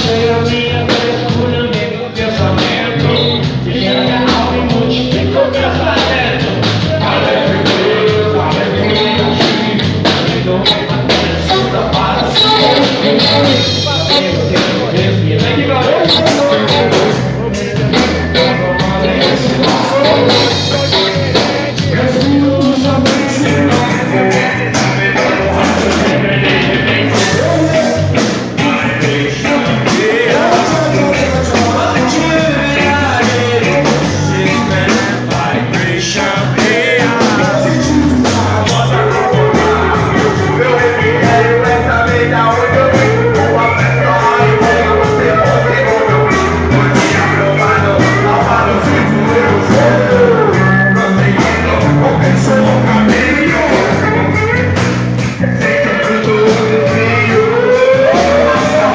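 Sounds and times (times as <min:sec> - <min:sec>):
live rock band playing: 0:00.0 - 0:58.9
person singing: 0:00.0 - 0:58.9.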